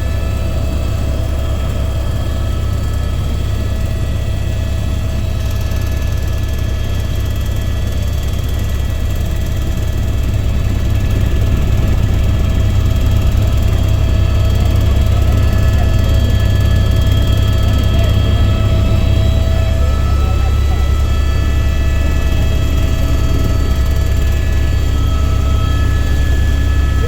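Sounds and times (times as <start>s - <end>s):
helicopter rotor drone: 0.0s - 27.0s
turbine whine: 0.0s - 27.0s.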